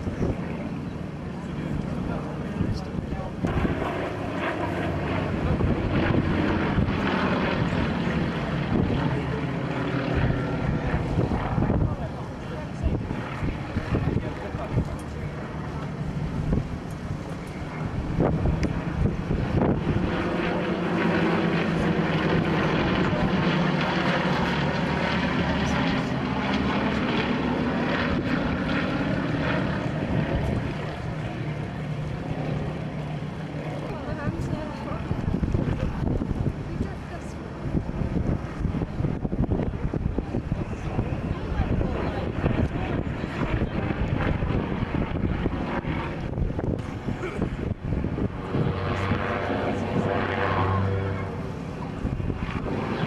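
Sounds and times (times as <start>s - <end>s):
propeller plane engines droning: 0.0s - 53.0s
wind buffeting microphone: 0.0s - 53.0s.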